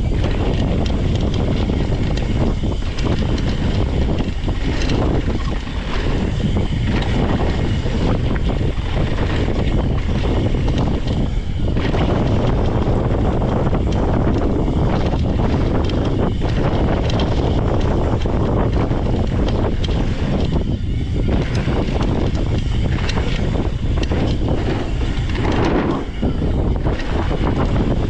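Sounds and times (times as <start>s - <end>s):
bike rattling over bumps: 0.0s - 28.0s
tyres rushing over dirt trail: 0.0s - 28.0s
wind buffeting microphone: 0.0s - 28.0s.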